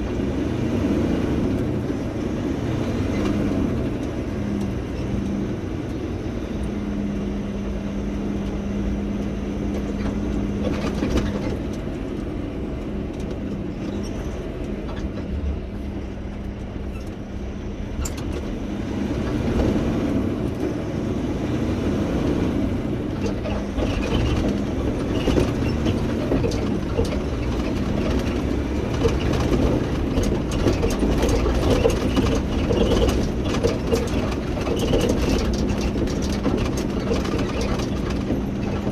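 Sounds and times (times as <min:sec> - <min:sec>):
heavy truck engine rumble: 0:00.0 - 0:38.9
road noise: 0:00.0 - 0:38.9.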